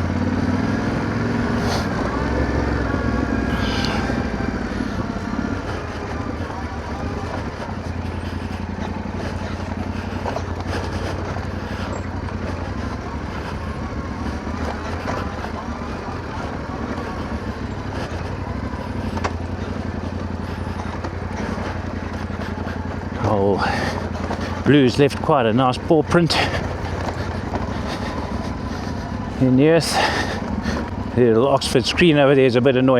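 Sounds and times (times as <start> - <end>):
motorcycle engine at low revs: 0.0 - 32.9.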